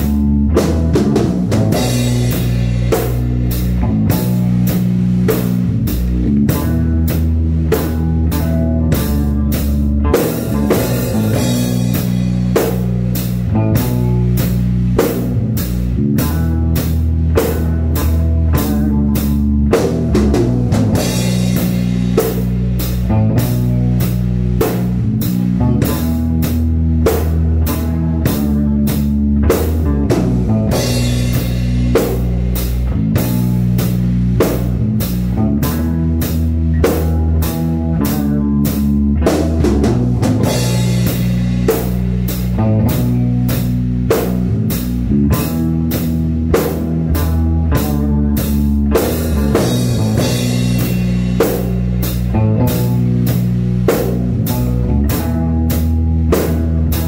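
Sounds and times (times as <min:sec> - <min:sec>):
drum kit beat: 0:00.0 - 0:57.0
electric guitar: 0:00.0 - 0:57.0
live rock band playing: 0:00.0 - 0:57.0.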